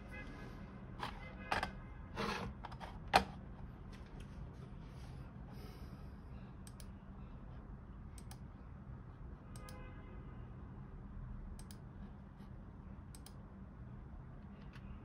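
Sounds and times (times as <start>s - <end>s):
faint low room hum: 0.3s - 15.0s.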